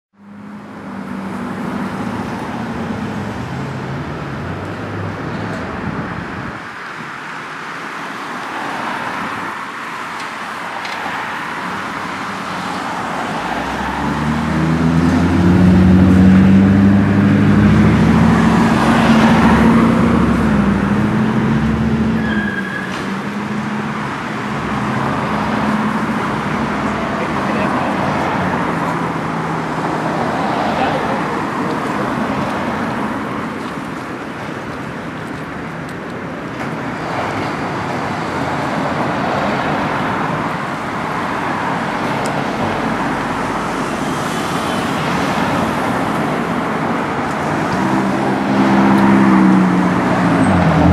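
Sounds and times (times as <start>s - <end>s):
cars driving past: 0.2s - 50.9s.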